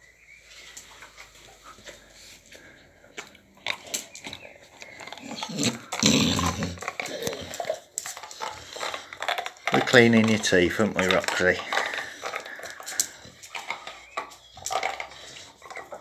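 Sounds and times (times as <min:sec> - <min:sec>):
dog playing with toy: 0:00.7 - 0:16.0.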